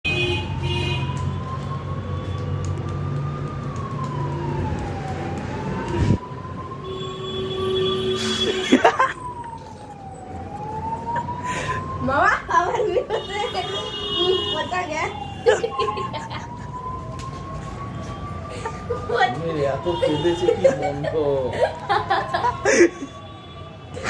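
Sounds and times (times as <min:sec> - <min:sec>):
siren wailing: 0:00.4 - 0:23.8.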